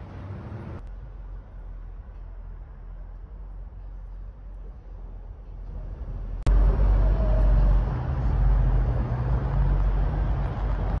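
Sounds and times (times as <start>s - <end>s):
highway traffic passing: 0.0s - 11.0s.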